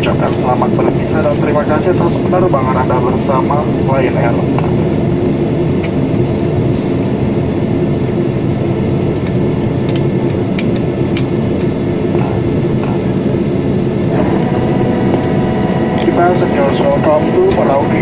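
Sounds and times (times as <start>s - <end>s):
high engine whine: 0.0s - 18.0s
jet engines idling: 0.0s - 18.0s
wheels rumbling on taxiway: 0.0s - 18.0s.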